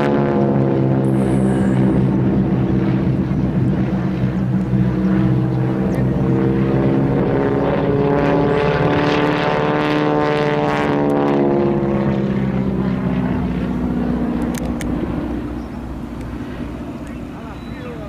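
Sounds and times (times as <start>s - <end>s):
propeller planes droning overhead: 0.0s - 18.0s.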